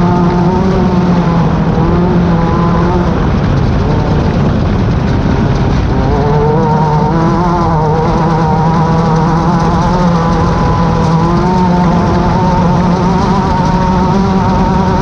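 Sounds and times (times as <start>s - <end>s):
race car engine droning: 0.0s - 15.0s.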